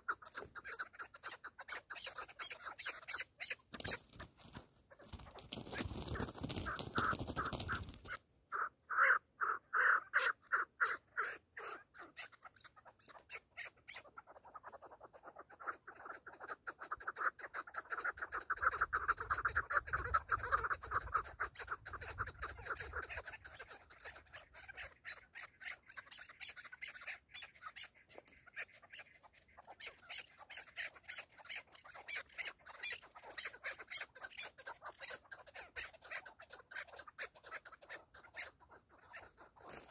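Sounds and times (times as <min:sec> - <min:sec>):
partridges clucking calls: 0:00.0 - 0:39.9.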